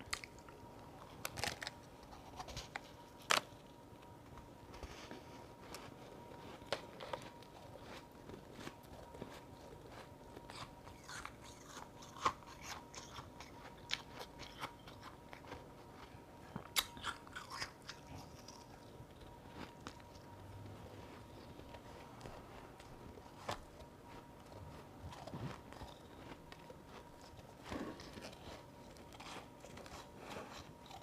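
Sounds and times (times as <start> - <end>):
ice chunks being chewed: 0.0 - 3.8, 5.5 - 31.0.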